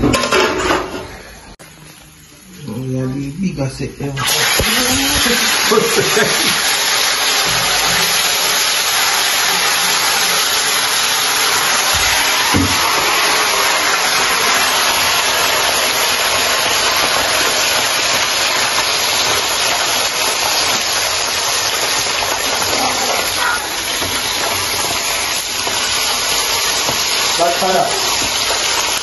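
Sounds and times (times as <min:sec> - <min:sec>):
fish sizzling in hot oil: 0:04.1 - 0:29.0.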